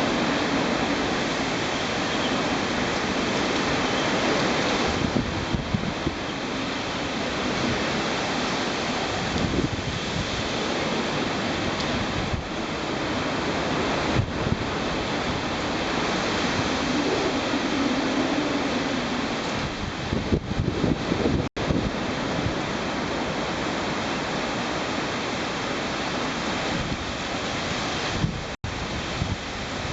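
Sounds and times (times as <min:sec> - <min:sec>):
driving rain: 0:00.0 - 0:29.9
gusts buffeting microphone: 0:00.0 - 0:29.9
rushing wind: 0:00.0 - 0:29.9.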